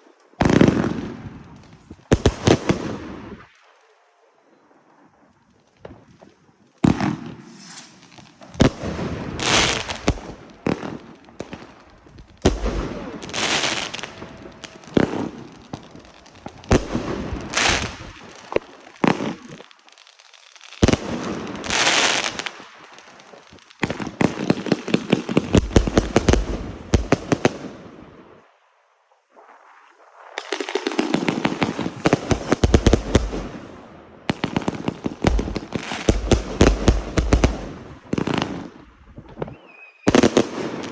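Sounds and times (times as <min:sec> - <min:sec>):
fireworks bangs and crackling: 0:00.0 - 0:03.8, 0:05.2 - 0:28.4, 0:29.3 - 0:40.9
fireworks hissing: 0:05.8 - 0:28.0, 0:29.3 - 0:40.9.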